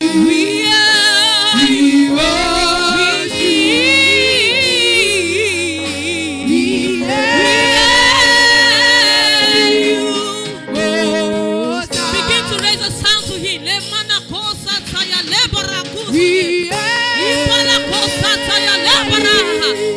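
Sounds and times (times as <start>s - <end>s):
person singing: 0.0s - 13.7s, 15.3s - 19.9s
held accompaniment chords: 0.0s - 19.9s.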